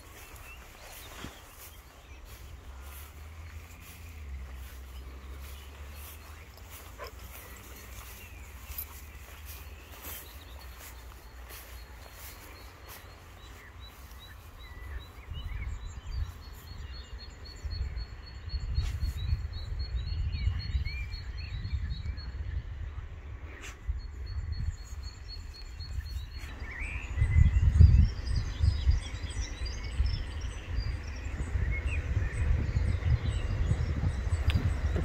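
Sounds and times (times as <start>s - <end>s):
birds chirping: 0.0s - 35.0s
wind rumble on microphone: 0.0s - 35.0s.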